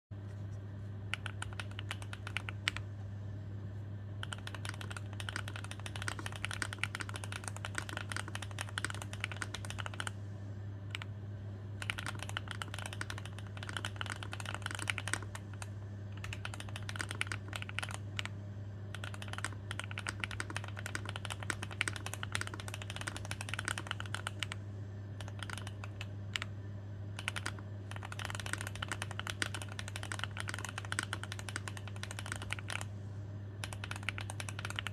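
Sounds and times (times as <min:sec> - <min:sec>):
low electrical hum: 0:00.1 - 0:34.9
mechanical keyboard typing: 0:01.1 - 0:02.8, 0:04.2 - 0:10.2, 0:11.8 - 0:18.3, 0:18.9 - 0:24.6, 0:25.2 - 0:26.5, 0:27.2 - 0:32.9, 0:33.6 - 0:34.9.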